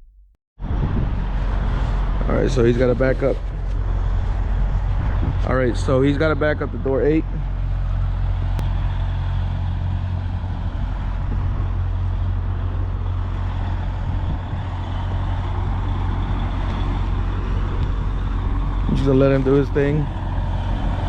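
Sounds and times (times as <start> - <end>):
diesel truck engine rumbling: 0.0 - 21.0.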